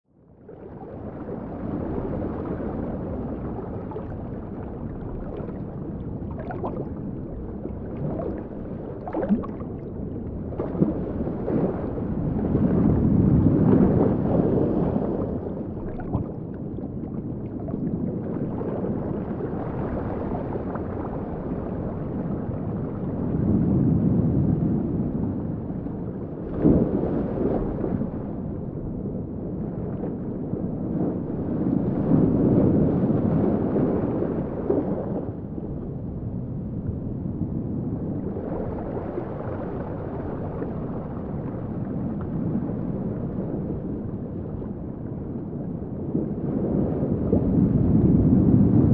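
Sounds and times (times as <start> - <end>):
muffled underwater water wash: 0.0 - 48.9.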